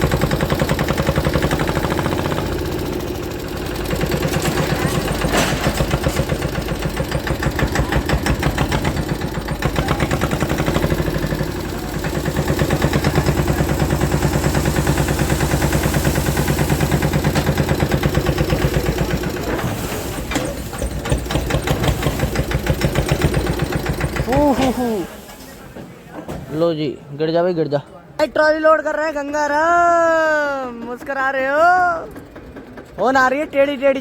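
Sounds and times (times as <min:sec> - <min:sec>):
tractor diesel engine running: 0:00.0 - 0:26.1, 0:28.6 - 0:34.0.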